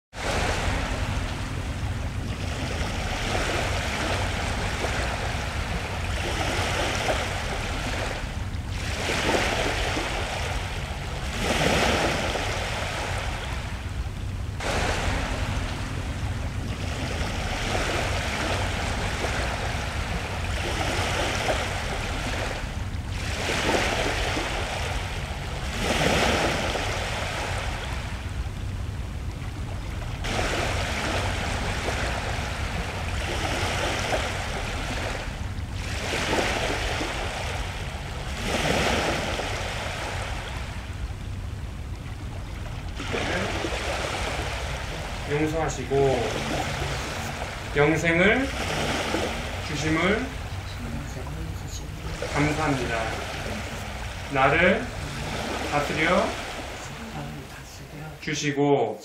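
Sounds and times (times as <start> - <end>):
low surf rumble: 0.1 - 58.6
waves breaking: 0.1 - 58.7.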